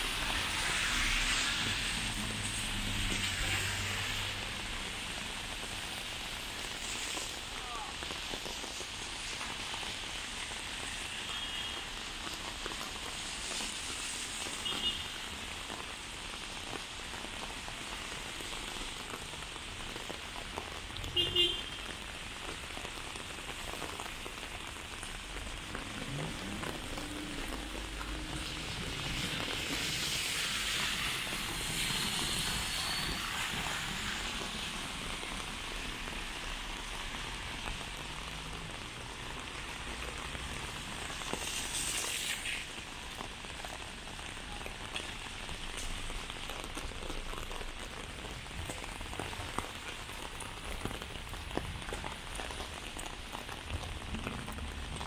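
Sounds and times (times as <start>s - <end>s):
rain on wet pavement: 0.0s - 55.0s.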